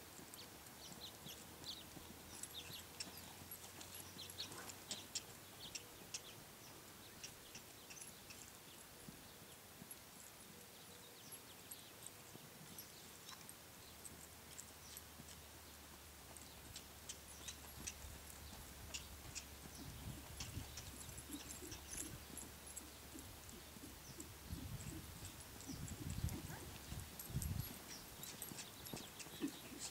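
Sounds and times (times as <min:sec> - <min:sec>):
hoofbeats trotting in sand: 0:00.0 - 0:29.9.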